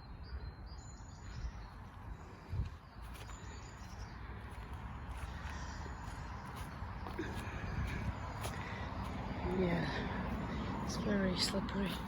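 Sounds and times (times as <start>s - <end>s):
low rumble of wind: 0.0s - 12.0s
small birds chirping: 0.0s - 12.0s.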